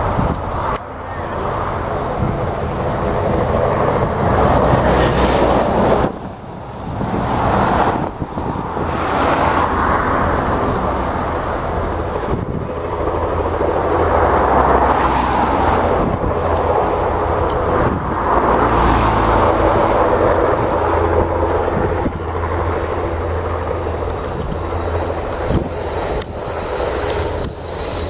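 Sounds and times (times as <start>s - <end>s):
jet engines rushing rumble: 0.0s - 28.0s.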